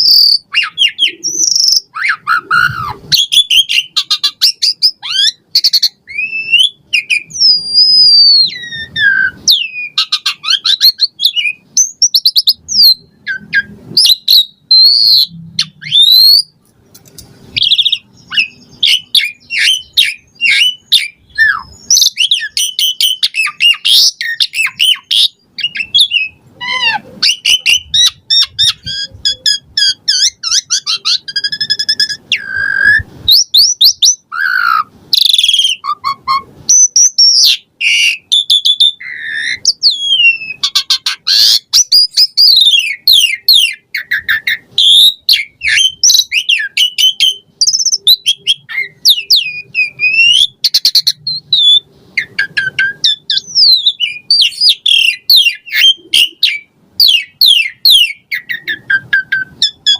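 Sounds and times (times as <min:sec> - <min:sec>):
starling singing: 0:00.0 - 0:16.6, 0:17.5 - 0:59.9.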